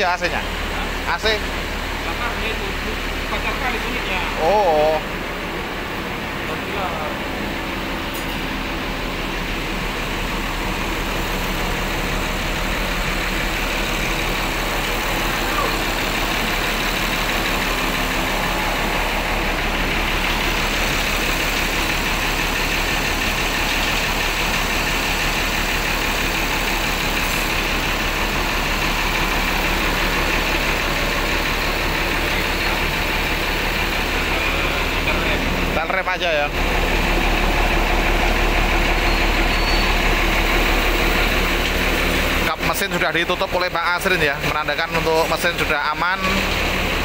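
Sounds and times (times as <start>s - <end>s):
bus diesel engine idling: 0.0s - 47.0s.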